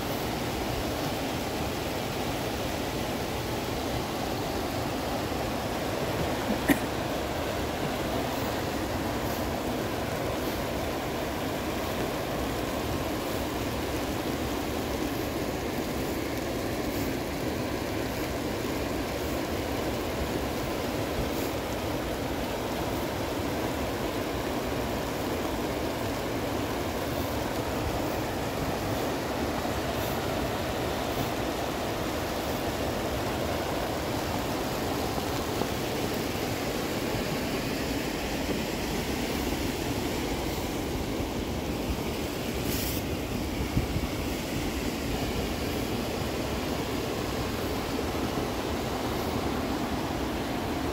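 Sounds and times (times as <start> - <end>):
creek rushing over rocks: 0.0 - 50.9.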